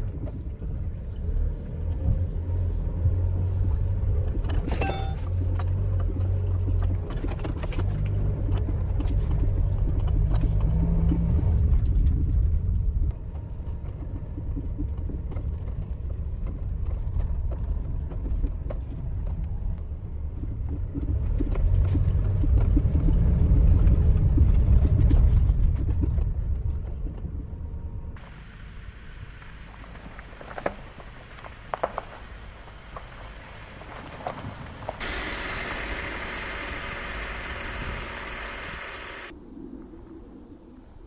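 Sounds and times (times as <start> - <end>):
motor vehicle engine rumble: 0.0 - 41.0.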